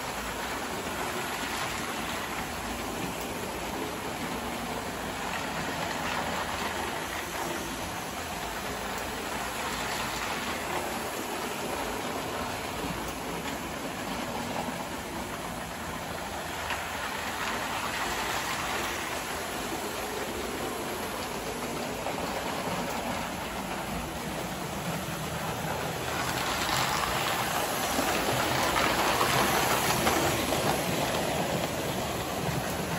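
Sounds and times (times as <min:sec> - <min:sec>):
model train wheels rattling on rails: 0:00.0 - 0:32.9.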